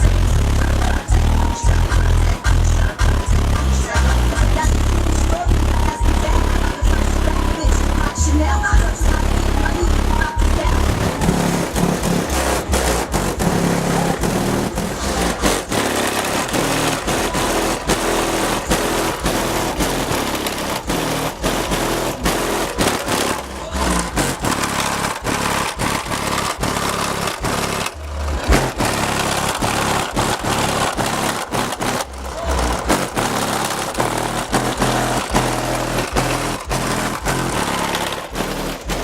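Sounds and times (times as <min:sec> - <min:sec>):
loud distorted bass-heavy music: 0:00.0 - 0:39.0.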